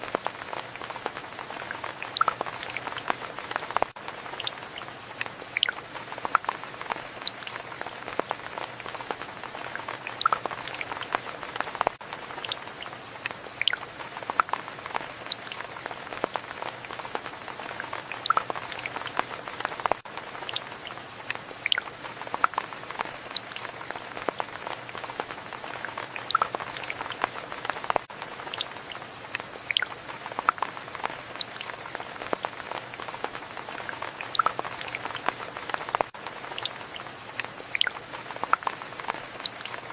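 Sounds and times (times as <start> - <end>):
rain with drops landing: 0.0 - 39.9.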